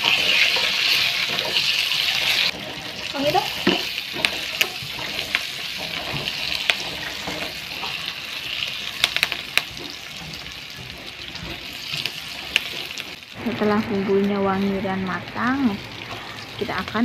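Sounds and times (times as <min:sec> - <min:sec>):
aromatics sizzling in hot oil: 0:00.0 - 0:17.0.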